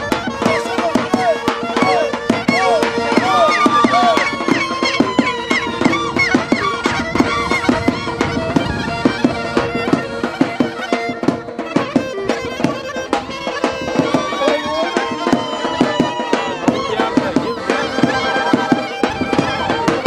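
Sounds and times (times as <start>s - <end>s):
ornamented lead melody: 0.0s - 20.0s
regular drumbeat: 0.0s - 20.0s.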